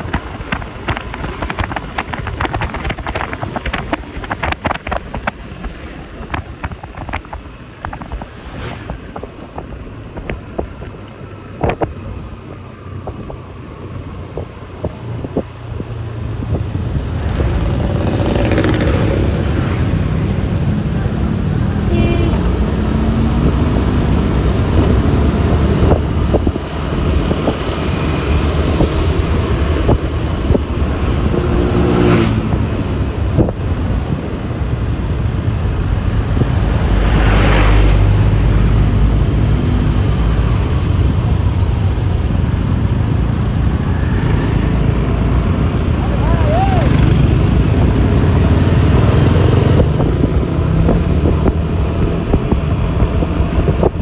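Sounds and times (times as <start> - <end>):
tyre noise: 0.0 - 54.0
wind buffeting microphone: 0.0 - 54.0
scooter engine: 8.9 - 36.4, 37.8 - 54.0.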